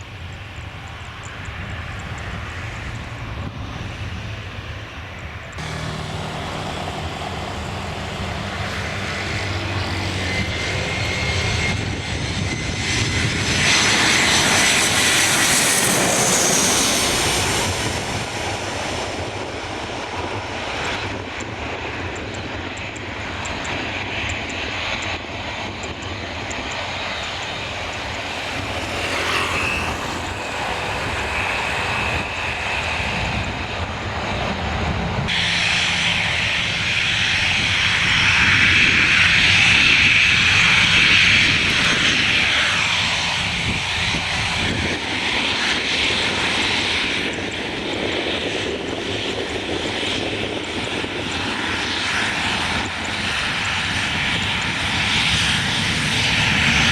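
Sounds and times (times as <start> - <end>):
airliner engines roaring: 0.0 - 56.9.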